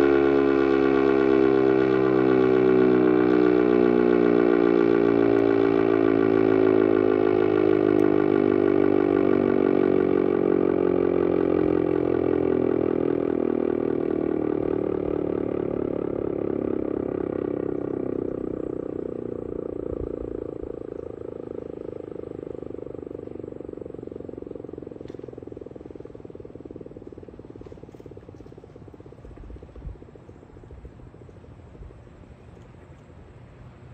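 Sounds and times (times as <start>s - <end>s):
siren winding down: 0.0s - 31.2s.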